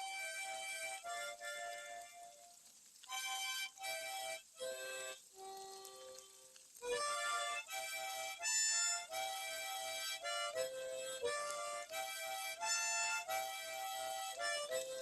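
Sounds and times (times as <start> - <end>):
reedy harmonica-like melody: 0.0 - 15.0.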